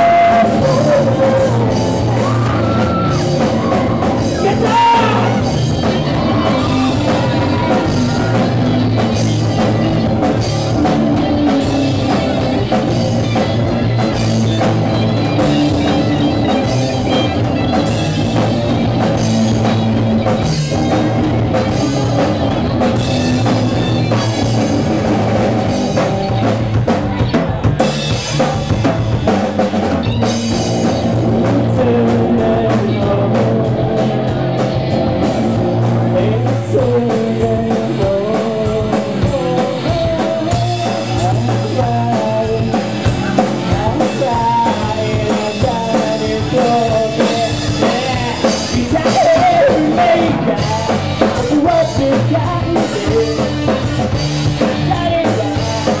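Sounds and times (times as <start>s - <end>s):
drum kit: 0.0s - 56.0s
electric guitars: 0.0s - 56.0s
melodic lead guitar line: 0.0s - 56.0s.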